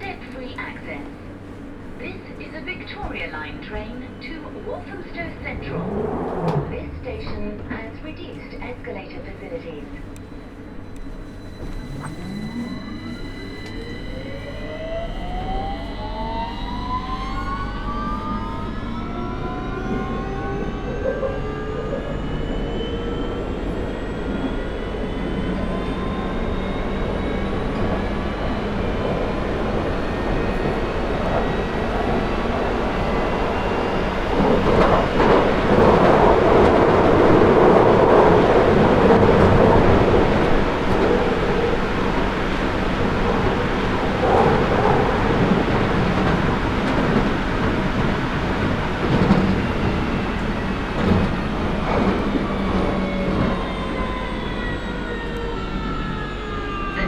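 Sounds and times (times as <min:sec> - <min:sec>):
train traction motors whining: 0:00.0 - 0:57.0
train wheel and tunnel noise: 0:00.0 - 0:57.0.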